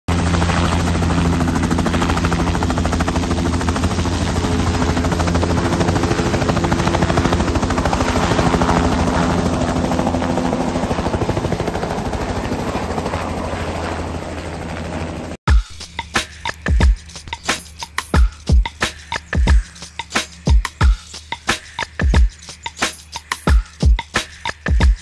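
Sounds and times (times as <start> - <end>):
helicopter engine drone: 0.1 - 25.0
helicopter rotor beating: 0.1 - 25.0.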